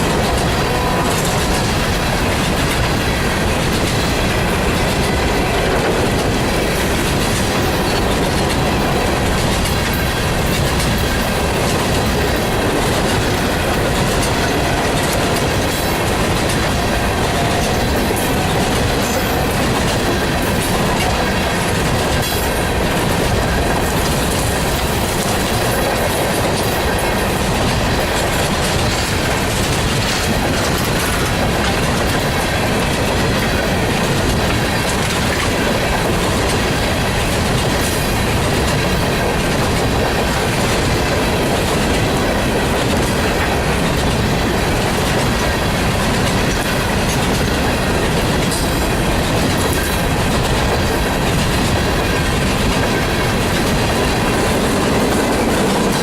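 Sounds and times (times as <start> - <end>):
wheels clicking over rail joints: 0.0 - 56.0.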